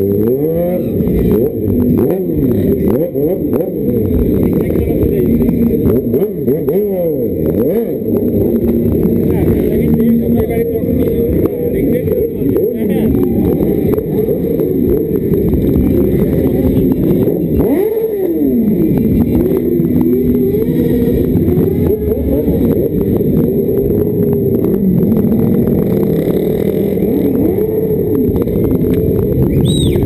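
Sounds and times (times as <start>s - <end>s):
motorcycle engine revving: 0.0s - 30.0s
other motorcycle engines: 0.0s - 30.0s.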